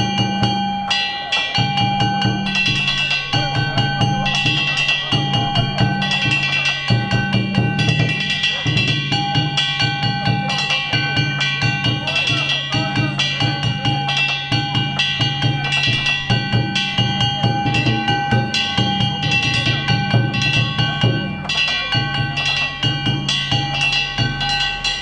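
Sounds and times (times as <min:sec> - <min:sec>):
festival drums: 0:00.0 - 0:25.0
small hand gongs ringing: 0:00.0 - 0:25.0.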